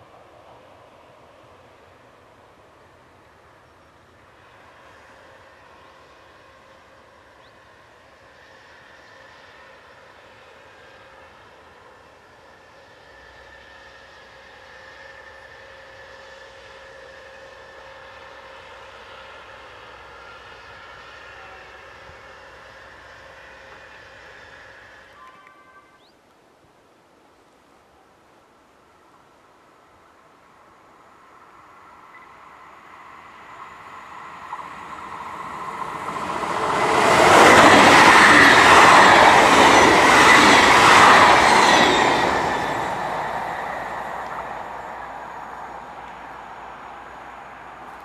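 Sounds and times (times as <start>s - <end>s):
locomotive whine: 0.0s - 26.2s, 30.7s - 48.0s
distant diesel locomotive drone: 0.0s - 48.0s.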